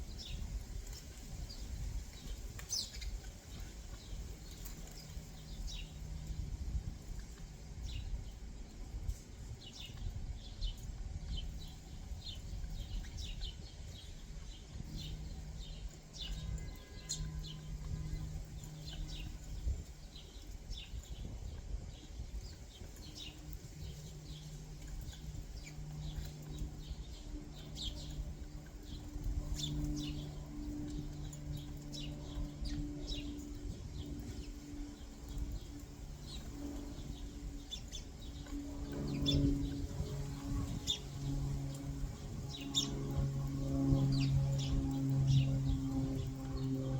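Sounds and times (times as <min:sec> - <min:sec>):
small birds chirping: 0:00.0 - 0:46.9
steady low hum and rumble: 0:00.0 - 0:46.9.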